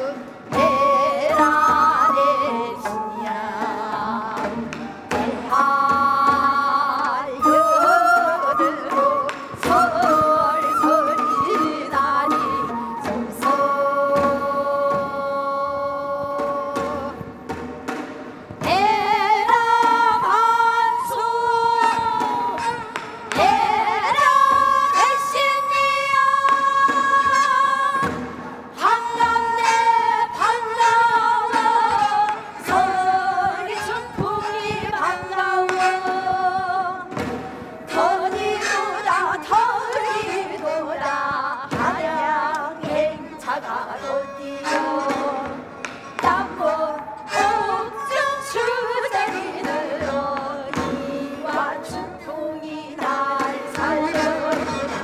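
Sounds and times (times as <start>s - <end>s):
flute: 0.0s - 17.4s, 18.6s - 55.0s
drums: 0.0s - 55.0s
women singing folk song: 0.0s - 55.0s.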